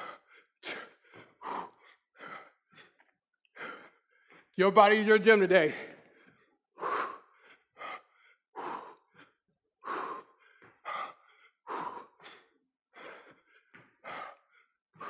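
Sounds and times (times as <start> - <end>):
man breathing hard: 0.0 - 4.6, 5.7 - 15.0.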